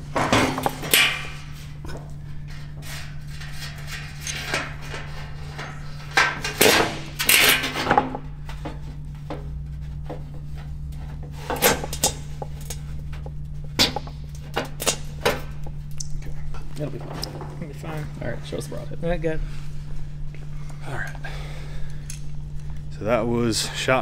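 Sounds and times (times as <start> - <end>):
metal scraping and rattling: 0.0 - 20.2.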